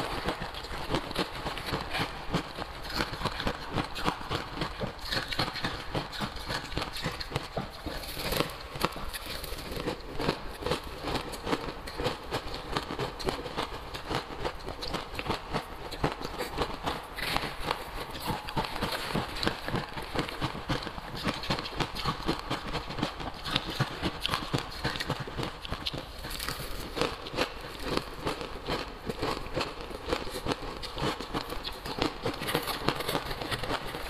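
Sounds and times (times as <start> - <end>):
crushed ice being chewed: 0.0 - 34.0.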